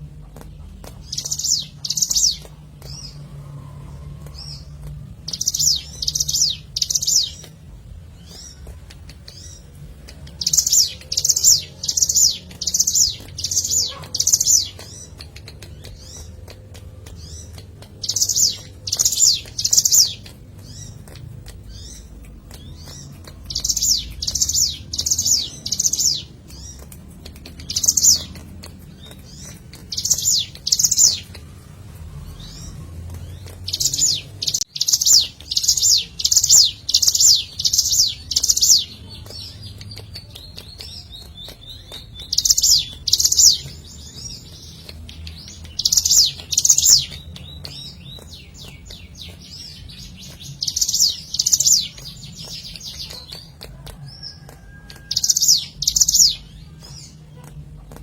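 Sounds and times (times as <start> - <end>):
bird singing sharp chips: 0.0 - 58.0.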